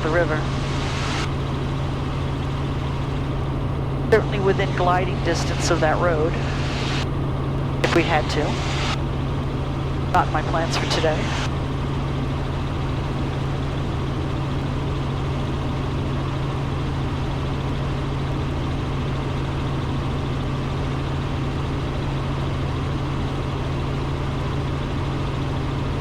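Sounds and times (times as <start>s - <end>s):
helicopter engine and rotors drone: 0.0s - 26.0s.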